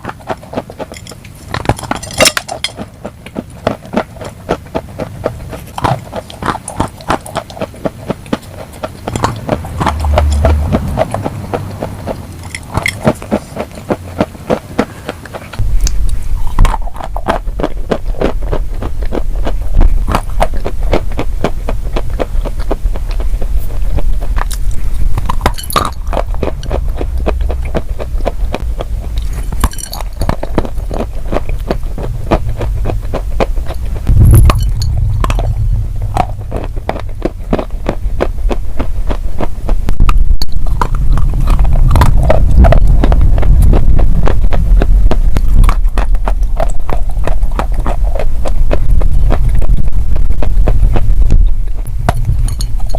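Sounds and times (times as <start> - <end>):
chewing crunchy food: 0.0 - 52.9
low rumble: 8.9 - 14.1, 15.6 - 52.9.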